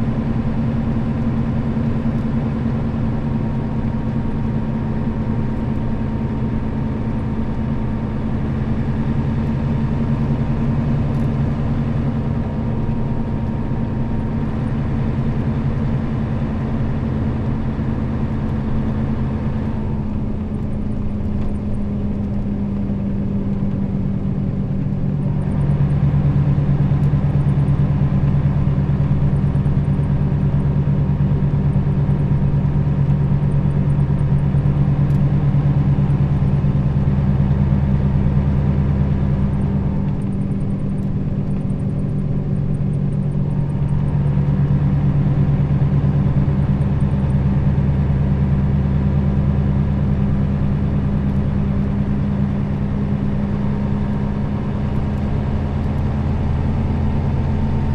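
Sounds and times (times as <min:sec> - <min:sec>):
bus diesel engine running: 0:00.0 - 0:57.9.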